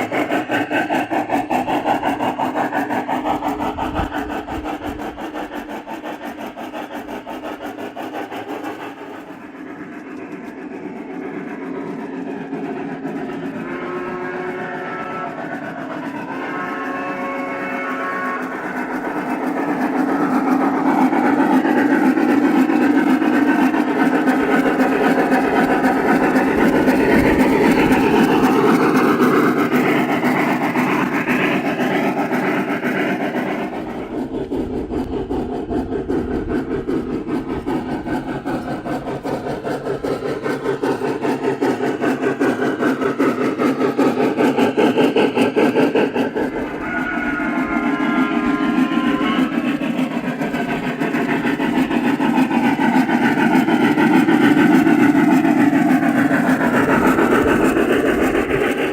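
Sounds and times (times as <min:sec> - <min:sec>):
synthesized steam locomotive chuffing: 0:00.0 - 0:58.9.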